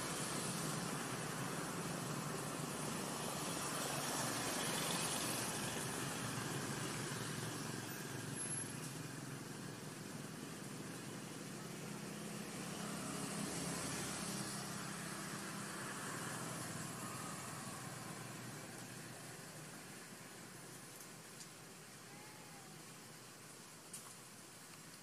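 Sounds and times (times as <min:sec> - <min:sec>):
low engine-like hum: 0:00.0 - 0:20.9
even hiss: 0:00.0 - 0:25.0.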